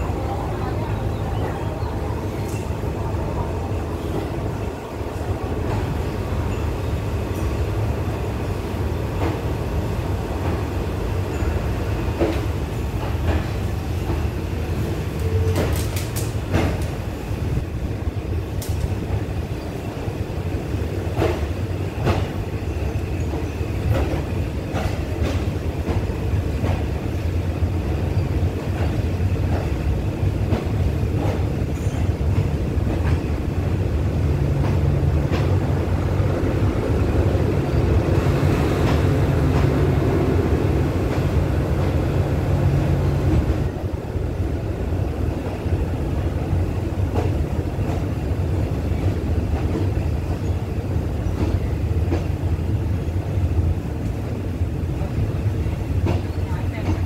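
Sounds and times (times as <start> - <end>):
train engine drone: 0.0 - 57.0.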